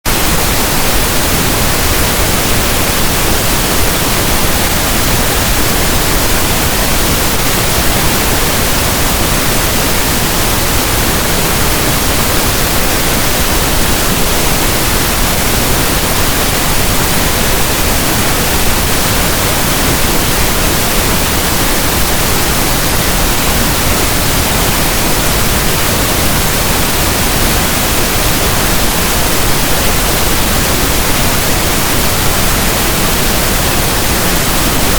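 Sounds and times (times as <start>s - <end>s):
steady pink noise hiss: 0.1s - 34.9s.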